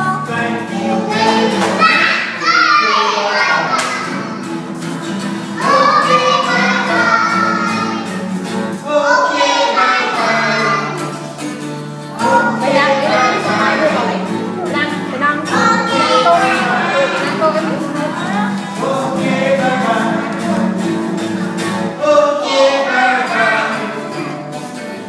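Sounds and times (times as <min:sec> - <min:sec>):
acoustic guitar: 0:00.0 - 0:25.0
children singing together: 0:00.0 - 0:25.0.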